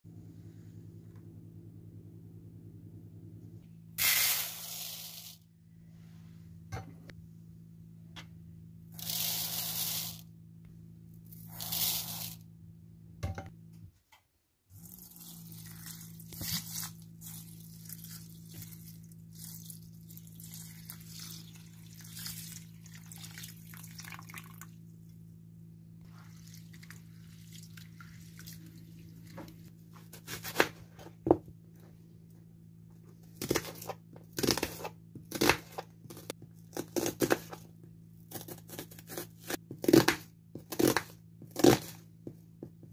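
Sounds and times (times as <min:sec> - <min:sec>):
steady low hum: 0:00.1 - 0:04.0, 0:05.4 - 0:14.1, 0:14.7 - 0:42.9.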